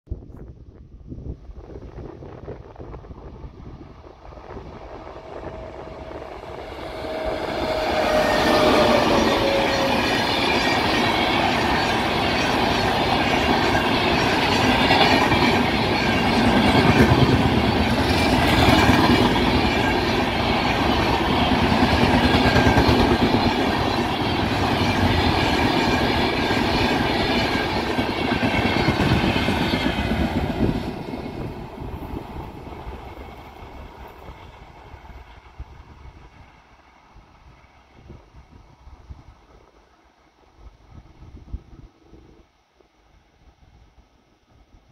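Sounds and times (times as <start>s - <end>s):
train wheels rumbling on rails: 1.4s - 42.4s.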